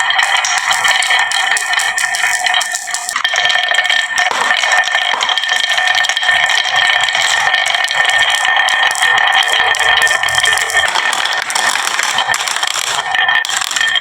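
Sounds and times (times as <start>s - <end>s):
marbles rattling down a marble run: 0.0s - 14.0s.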